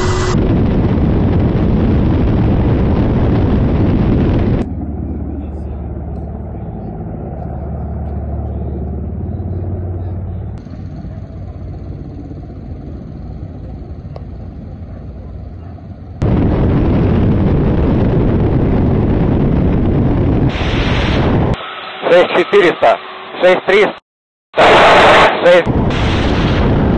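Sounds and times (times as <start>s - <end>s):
helicopter rotor drone: 0.0s - 24.0s.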